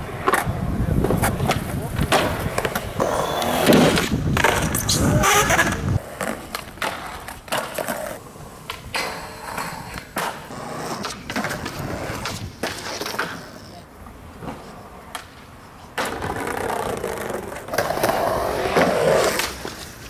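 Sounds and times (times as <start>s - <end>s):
skateboard clacks and knocks: 0.0s - 13.7s, 14.4s - 20.0s
skateboard wheels rolling on concrete: 0.0s - 20.0s.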